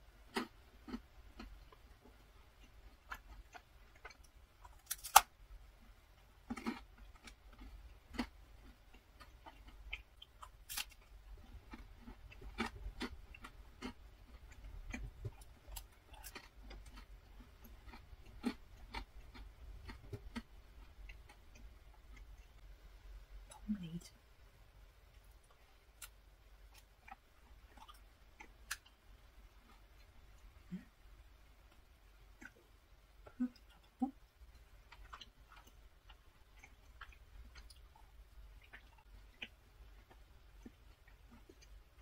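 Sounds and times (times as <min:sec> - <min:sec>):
chewing crunchy food: 0:00.2 - 0:22.6, 0:25.2 - 0:30.8, 0:31.7 - 0:42.0.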